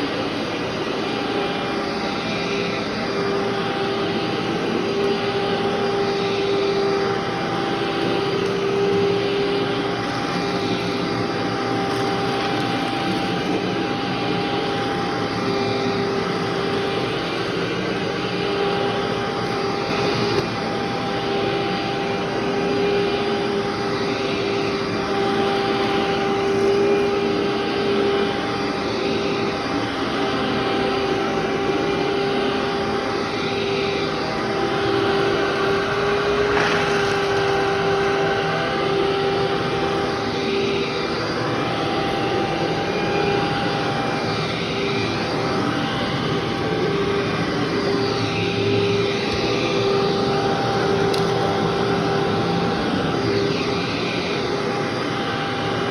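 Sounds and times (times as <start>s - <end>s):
vacuum cleaner on carpet: 0.0s - 55.9s.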